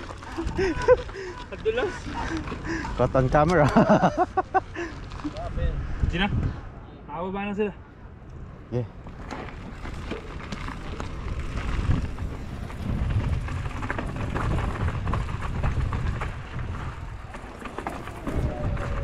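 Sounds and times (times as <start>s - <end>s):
bike rattling and knocking: 0.0s - 5.3s, 9.0s - 19.0s
tyres crunching over gravel: 0.0s - 5.5s, 9.0s - 19.0s
wind buffeting microphone: 0.0s - 6.8s, 9.6s - 19.0s.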